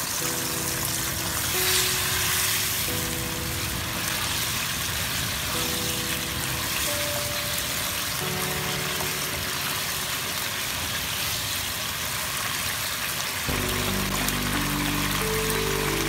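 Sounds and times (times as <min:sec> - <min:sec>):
background music with held notes: 0:00.0 - 0:11.2, 0:13.5 - 0:16.0
sauce sizzling in a wok: 0:00.0 - 0:16.0.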